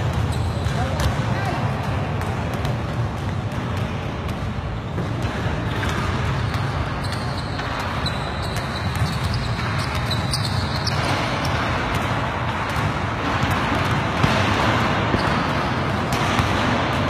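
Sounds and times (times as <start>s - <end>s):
basketballs bouncing on court: 0.0s - 17.0s.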